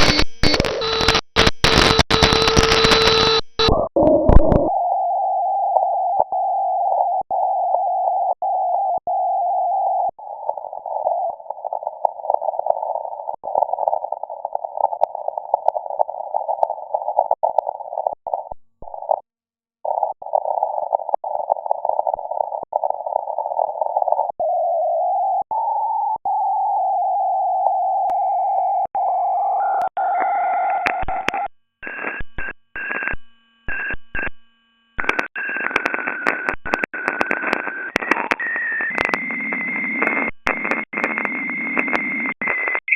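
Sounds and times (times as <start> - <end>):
shortwave radio hiss and tone: 0.0 - 19.2, 19.9 - 33.1, 35.0 - 42.9.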